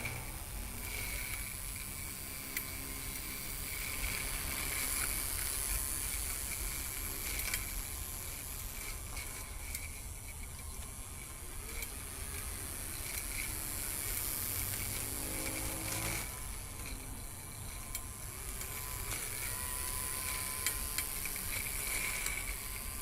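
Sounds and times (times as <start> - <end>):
electric motors whirring: 0.0 - 23.0.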